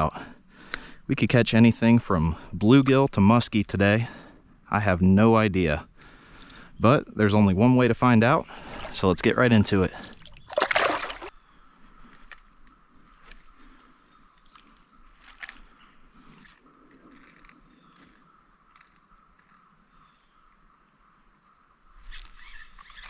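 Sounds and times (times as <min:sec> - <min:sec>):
high insect chorus: 0:00.0 - 0:23.0.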